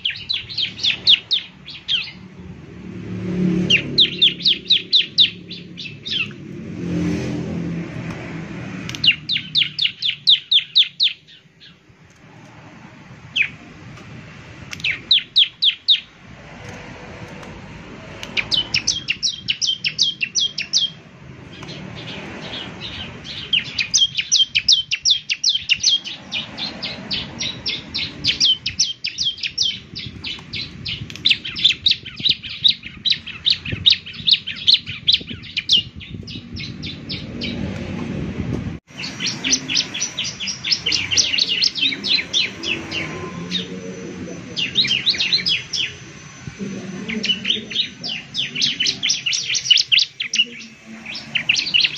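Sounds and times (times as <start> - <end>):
bird singing high chirps: 0.0 - 2.3, 3.4 - 6.5, 8.9 - 11.9, 13.3 - 13.6, 14.7 - 16.2, 18.2 - 37.7, 38.9 - 51.9.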